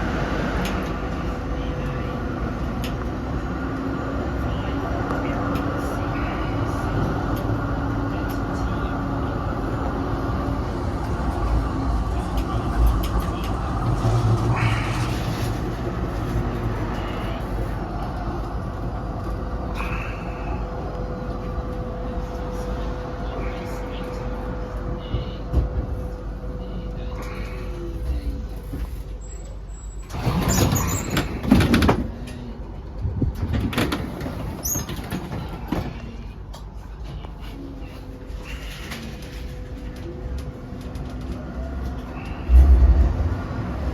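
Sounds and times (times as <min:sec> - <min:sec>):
tram wheels rumbling on rails: 0:00.0 - 0:43.9.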